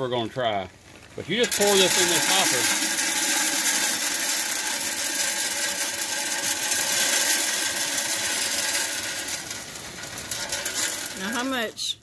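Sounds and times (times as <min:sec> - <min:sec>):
pellets pouring into hopper: 0:01.2 - 0:11.6.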